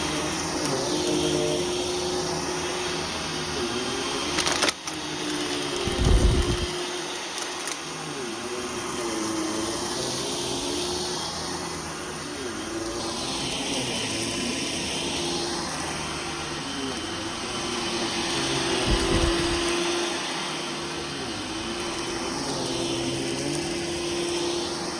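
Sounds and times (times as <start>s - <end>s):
vacuum cleaner running over carpet: 0.0s - 24.9s.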